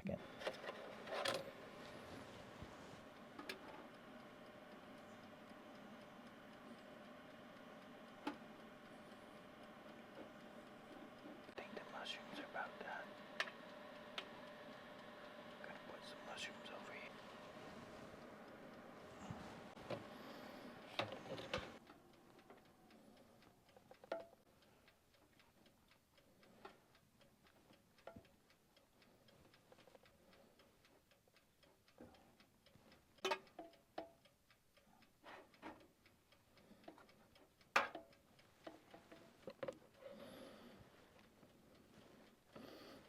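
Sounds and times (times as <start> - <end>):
mechanical timer ticking: 3.0 - 43.0.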